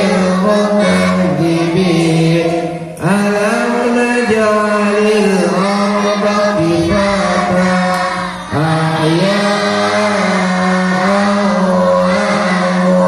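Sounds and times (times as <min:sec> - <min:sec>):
group chanting in unison: 0:00.0 - 0:13.0.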